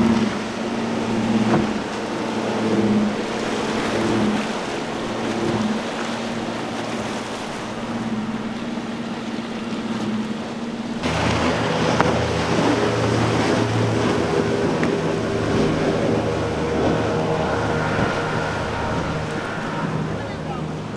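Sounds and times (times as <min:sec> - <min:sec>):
outboard motors running fast: 0:00.0 - 0:20.9
spray splashing off hulls: 0:00.0 - 0:20.9.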